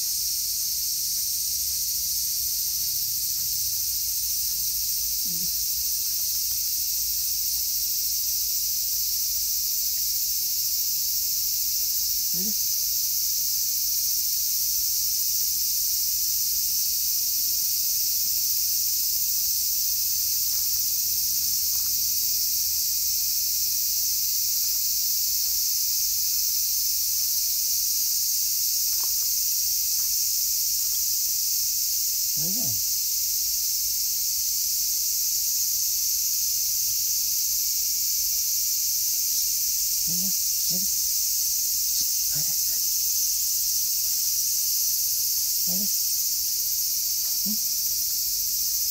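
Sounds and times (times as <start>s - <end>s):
insects chorus hissing: 0.0s - 48.9s.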